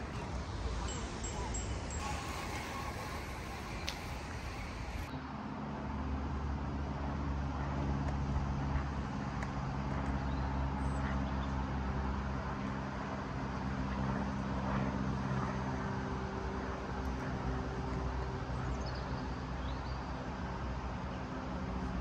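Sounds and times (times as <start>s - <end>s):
engine running steadily: 0.0s - 19.6s
outdoor background noise: 0.0s - 22.0s.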